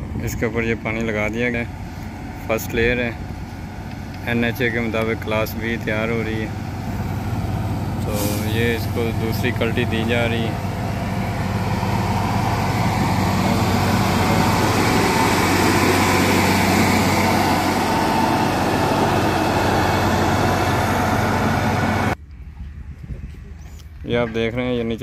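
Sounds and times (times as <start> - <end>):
diesel engine running under load: 0.0 - 22.2.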